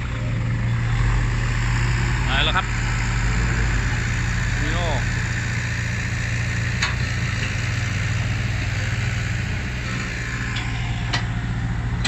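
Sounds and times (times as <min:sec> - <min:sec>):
dump truck diesel engine: 0:00.0 - 0:12.0.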